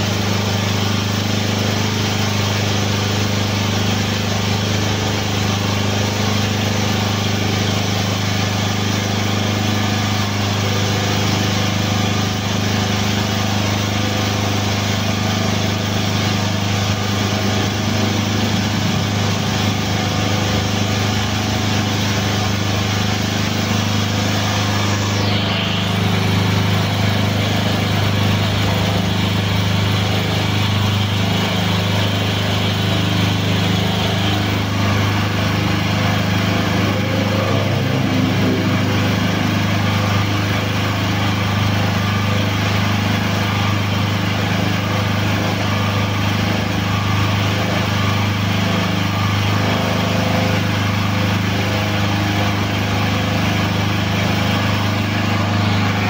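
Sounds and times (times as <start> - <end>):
hydraulic press machine hum: 0.0 - 56.0.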